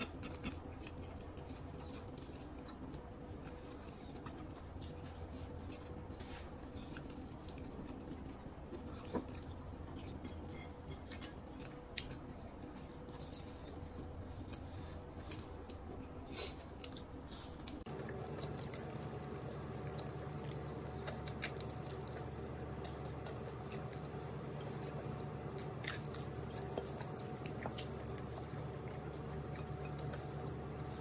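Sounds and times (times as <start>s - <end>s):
person chewing food: 0.0s - 31.0s
steady low hum: 0.0s - 31.0s.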